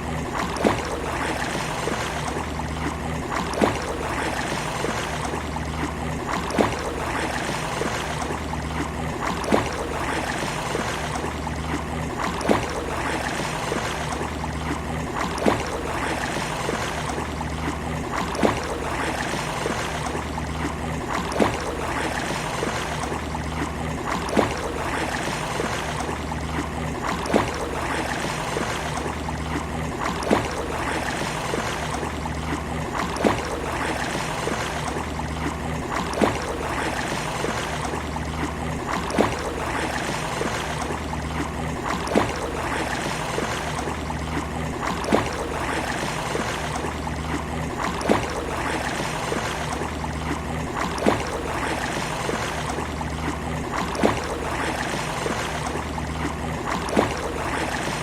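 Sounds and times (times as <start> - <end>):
sea waves: 0.0 - 58.0.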